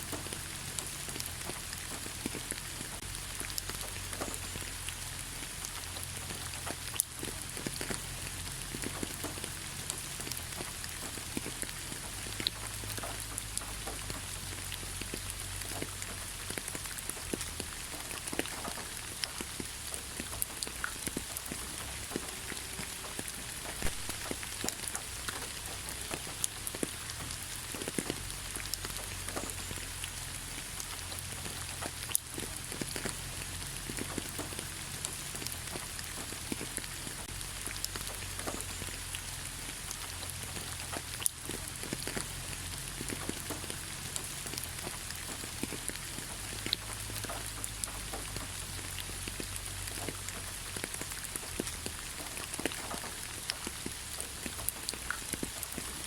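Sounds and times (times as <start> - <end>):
raindrops tapping on leaves: 0.0 - 56.0
soft rain hiss: 0.0 - 56.0.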